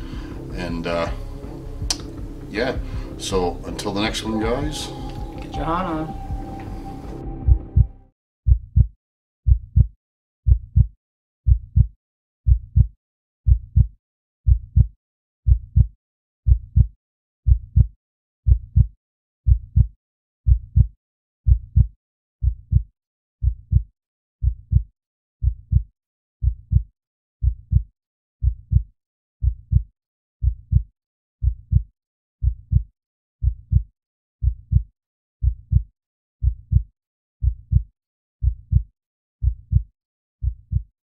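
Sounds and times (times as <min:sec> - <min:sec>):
heartbeat thumps: 0:00.0 - 0:08.9, 0:09.5 - 0:09.9, 0:10.5 - 0:10.9, 0:11.5 - 0:11.9, 0:12.5 - 0:12.9, 0:13.5 - 0:13.9, 0:14.5 - 0:14.9, 0:15.5 - 0:15.9, 0:16.5 - 0:16.9, 0:17.5 - 0:17.9, 0:18.5 - 0:18.9, 0:19.5 - 0:19.9, 0:20.5 - 0:20.9, 0:21.5 - 0:40.9.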